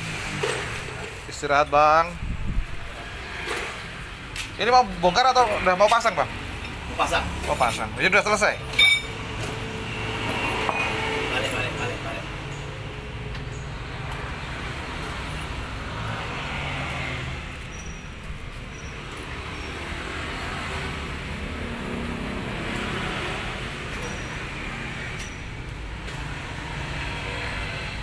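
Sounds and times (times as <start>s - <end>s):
traffic noise: 0.0s - 28.0s
vehicles passing: 0.0s - 28.0s.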